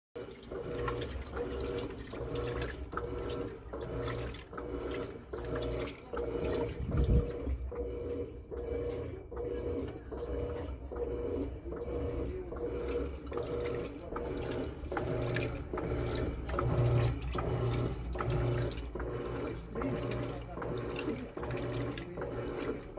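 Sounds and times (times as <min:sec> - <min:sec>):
motor hum: 0:00.2 - 0:22.9
washing machine agitating: 0:00.2 - 0:22.9
water sloshing: 0:00.2 - 0:22.9.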